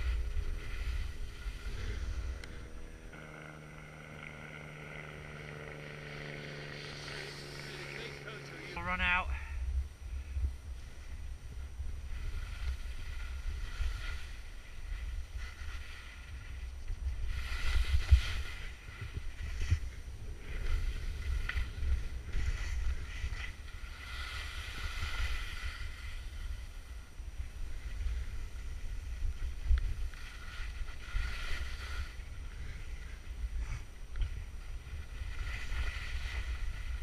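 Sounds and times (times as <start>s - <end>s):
skis scraping over snow: 0.0s - 3.2s, 5.5s - 9.3s, 10.8s - 37.0s
wind buffeting microphone: 0.0s - 3.2s, 9.0s - 37.0s.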